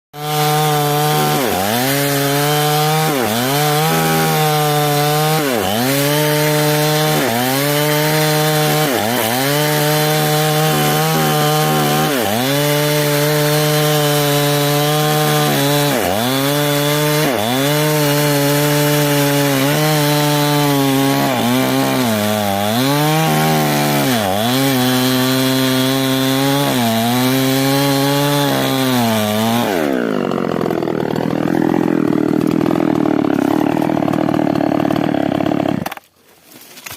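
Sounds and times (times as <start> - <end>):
chainsaw cutting wood: 0.2 - 36.2.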